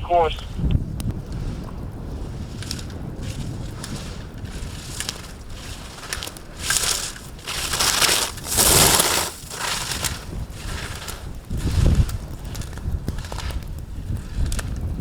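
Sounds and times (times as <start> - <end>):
skis scraping on hard snow: 0.1 - 15.0.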